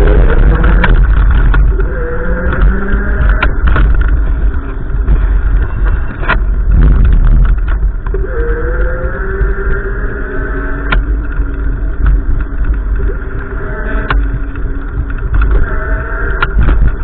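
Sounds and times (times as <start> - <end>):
clicks and crackles: 0.0 - 17.0
wind buffeting microphone: 0.0 - 17.0.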